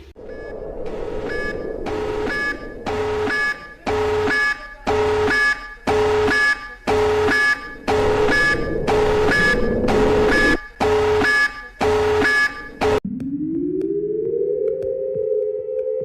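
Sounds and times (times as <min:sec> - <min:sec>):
buzzy multi-tone alarm beeps: 0:00.2 - 0:14.6.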